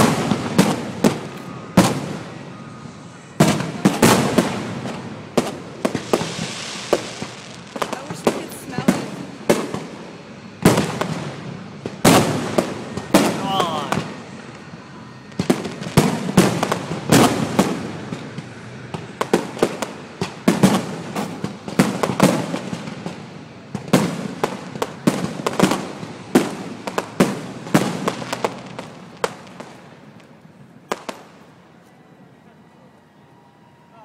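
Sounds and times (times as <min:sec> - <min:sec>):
fireworks bangs and thuds: 0:00.0 - 0:31.5.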